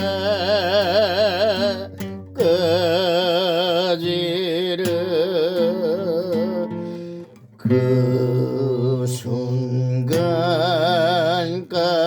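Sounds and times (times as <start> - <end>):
person singing with vibrato: 0.0 - 12.0.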